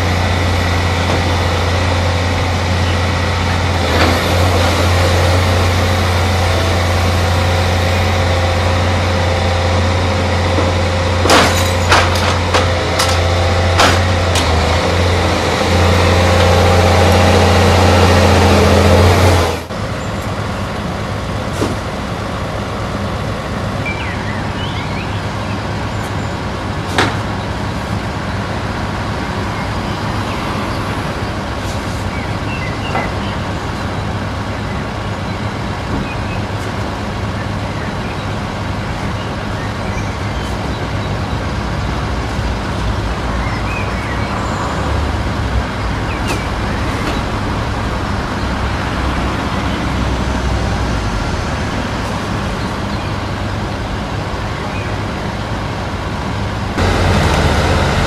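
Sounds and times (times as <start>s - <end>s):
excavator diesel engine humming: 0.0s - 58.0s.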